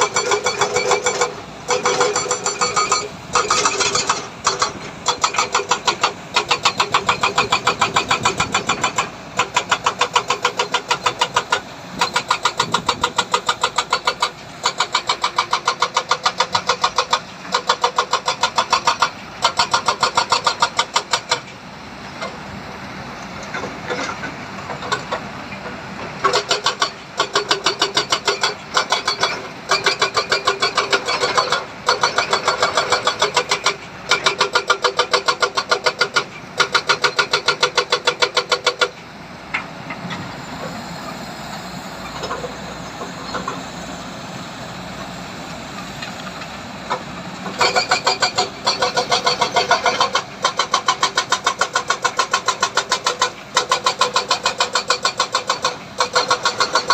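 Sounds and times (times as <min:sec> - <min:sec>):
heavy machinery engine pulsing rattle: 0:00.0 - 0:56.9.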